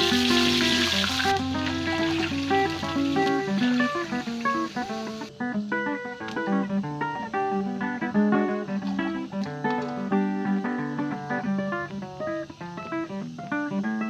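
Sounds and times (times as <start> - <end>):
guitar plucking a melody: 0.0 - 14.0.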